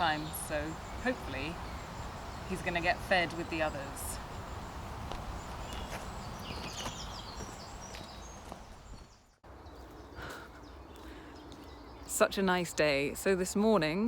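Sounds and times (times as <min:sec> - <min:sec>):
low wind rumble: 0:00.0 - 0:13.9
small birds chirping: 0:00.0 - 0:14.0.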